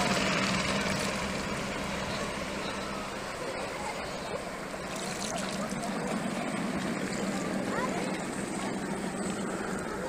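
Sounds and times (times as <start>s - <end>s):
motor drone: 0.0s - 10.0s.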